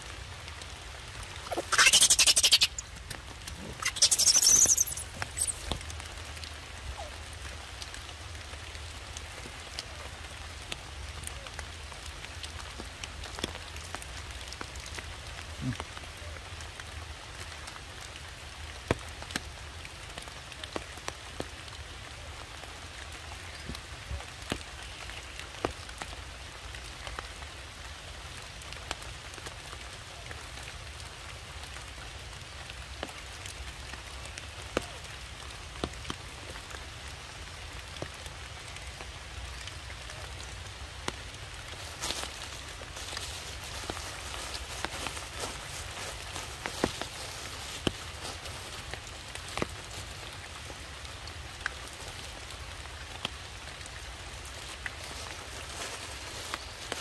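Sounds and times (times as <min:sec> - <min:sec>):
rain pattering on leaves and rock: 0:00.0 - 0:57.0.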